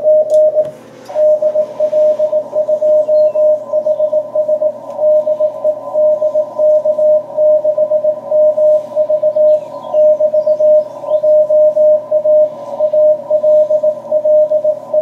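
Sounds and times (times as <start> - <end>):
morse code beeps: 0.0 - 15.0
receiver hiss: 0.0 - 15.0.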